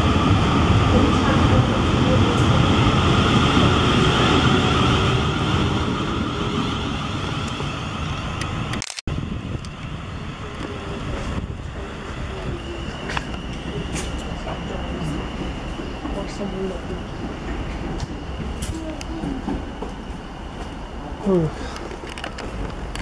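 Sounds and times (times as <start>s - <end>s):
train arriving rumble: 0.0s - 23.0s
train wheels rumbling on rail: 0.0s - 23.0s.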